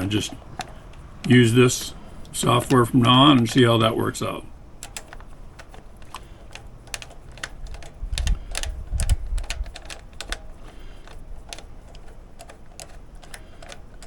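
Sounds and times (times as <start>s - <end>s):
small metal parts clicking: 0.0s - 14.0s.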